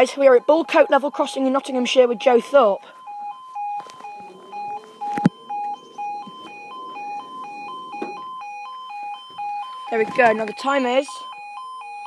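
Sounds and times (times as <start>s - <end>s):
two-tone crossing alarm: 0.0s - 12.0s.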